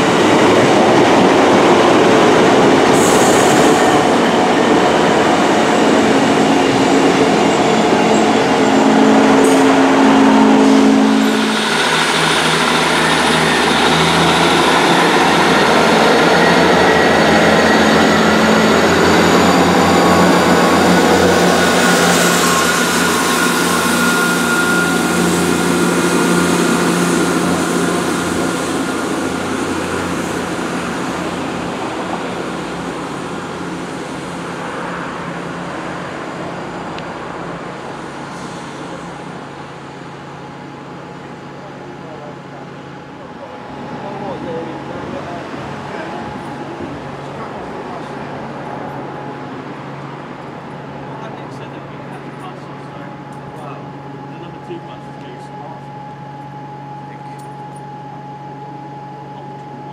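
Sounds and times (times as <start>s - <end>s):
diesel train engine throbbing: 0.0s - 59.9s.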